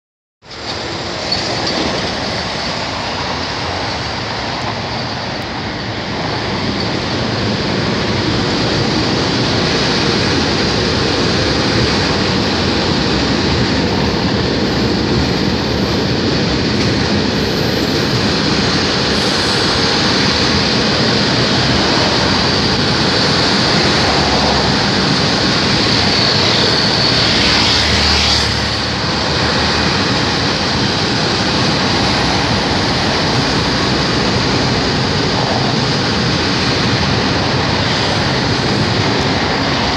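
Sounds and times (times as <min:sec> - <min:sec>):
freight train wheels on rails: 0:00.4 - 0:39.9.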